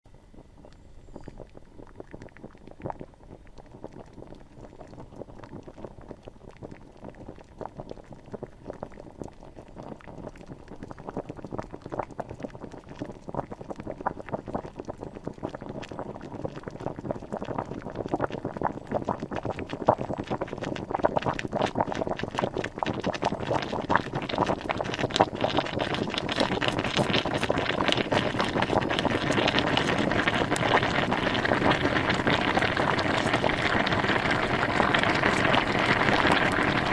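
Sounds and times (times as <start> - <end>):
water boiling: 0.2 - 36.9.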